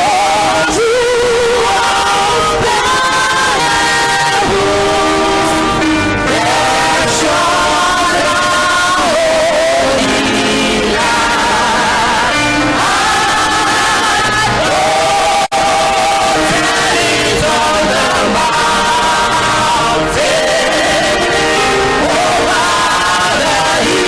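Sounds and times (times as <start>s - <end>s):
gospel choir singing: 0.0s - 24.0s
instrumental accompaniment: 1.7s - 24.0s.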